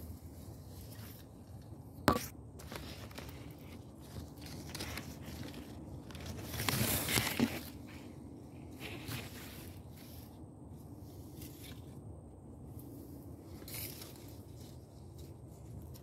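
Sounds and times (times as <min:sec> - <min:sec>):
leaves and twigs rustling: 0:00.0 - 0:12.1, 0:12.7 - 0:16.0.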